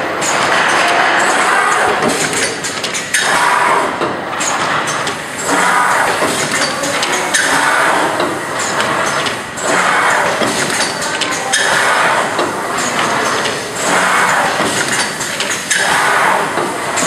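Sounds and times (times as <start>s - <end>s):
packaging machine running: 0.0s - 17.0s.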